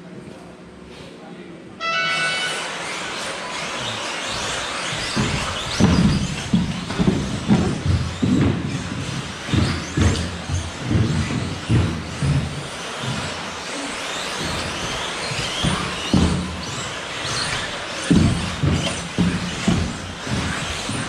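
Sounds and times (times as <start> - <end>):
rc car motors whining: 2.2 - 21.0.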